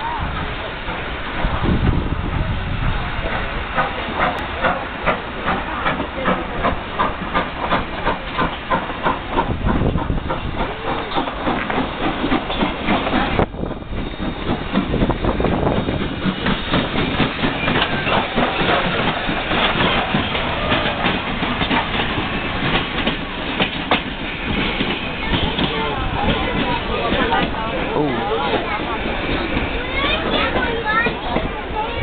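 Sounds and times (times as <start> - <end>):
steam hissing: 0.0 - 32.0
steam locomotive chuffing: 0.0 - 32.0.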